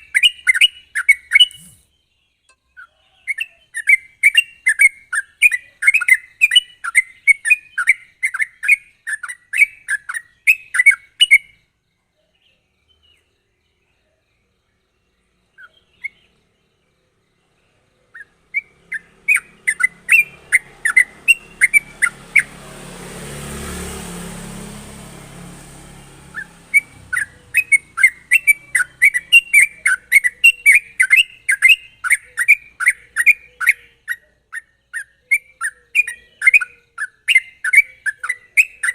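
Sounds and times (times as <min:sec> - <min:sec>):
bulbul chirping song: 0:00.0 - 0:38.9.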